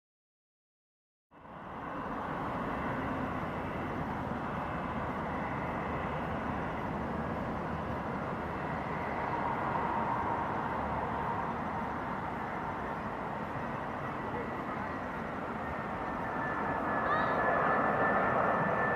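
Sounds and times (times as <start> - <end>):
jet engines on approach: 1.3 - 18.9.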